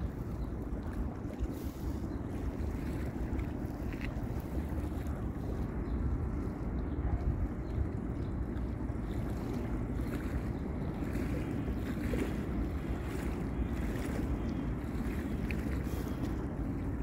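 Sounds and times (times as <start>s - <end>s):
river water lapping at bank: 0.0s - 17.0s
wind rumbling on microphone: 0.0s - 17.0s.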